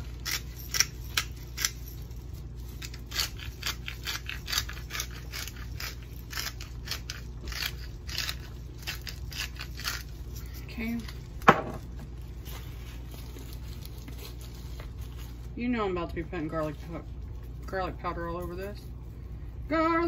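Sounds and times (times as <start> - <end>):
pepper grinder crunching: 0.0 - 18.6.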